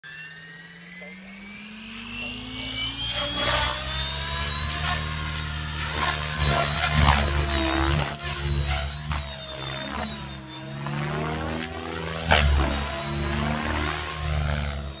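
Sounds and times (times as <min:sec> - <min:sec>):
electric motor and gear whine: 0:00.0 - 0:15.0
rotor whoosh: 0:00.1 - 0:15.0.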